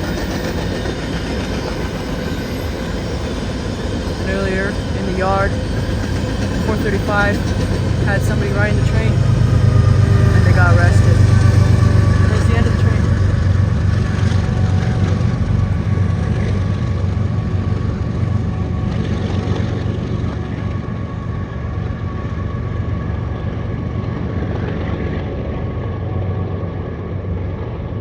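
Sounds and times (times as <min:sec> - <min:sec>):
engine humming with whine: 0:02.5 - 0:28.0.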